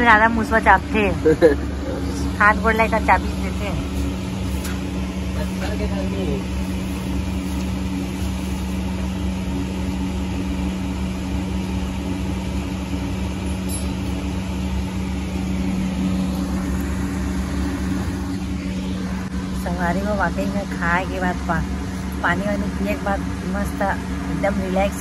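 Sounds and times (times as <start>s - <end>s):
air cooler fan humming: 0.0s - 25.0s.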